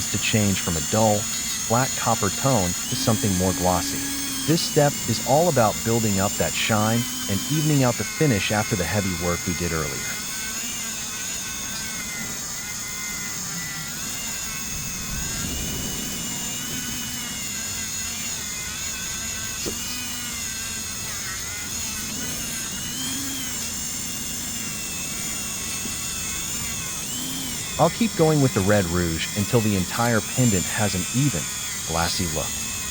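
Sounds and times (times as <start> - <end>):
rotary polishing tool whining: 0.0 - 32.9.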